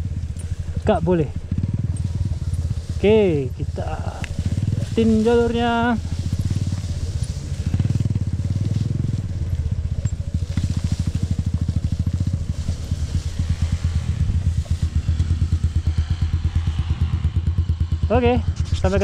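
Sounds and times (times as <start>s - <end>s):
dirt bike engine at low revs: 0.0s - 19.0s.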